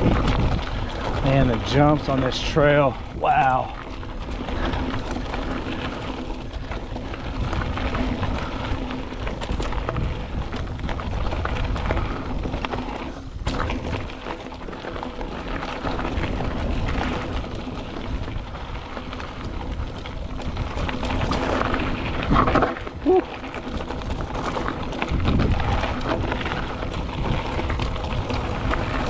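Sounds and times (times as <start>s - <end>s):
bike rattling over bumps: 0.0s - 29.0s
bike tyres over dirt and rocks: 0.0s - 29.0s
wind rumble on microphone: 0.0s - 29.0s.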